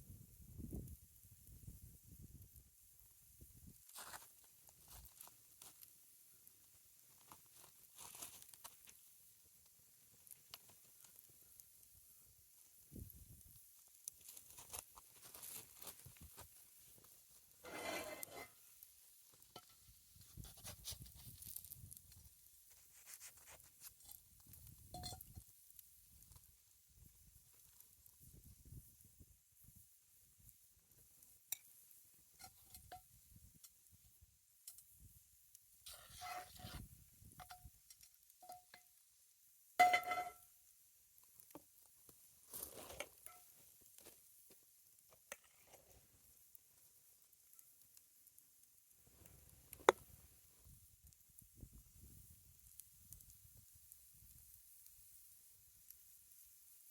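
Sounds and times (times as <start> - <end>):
campfire crackling: 0.0 - 56.9.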